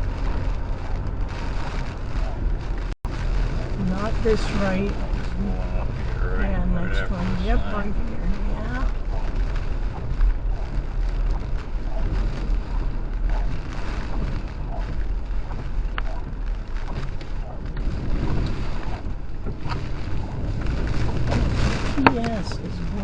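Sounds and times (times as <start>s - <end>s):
truck driving rumble: 0.0s - 23.0s
wind noise: 0.0s - 23.0s.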